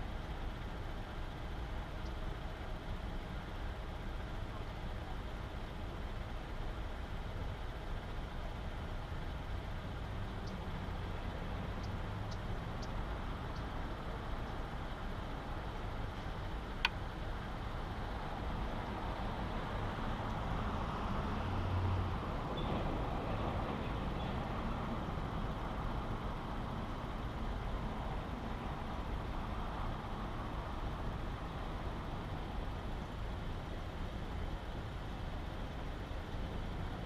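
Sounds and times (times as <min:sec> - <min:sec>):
car engine idling: 0:00.0 - 0:20.4, 0:25.0 - 0:37.0.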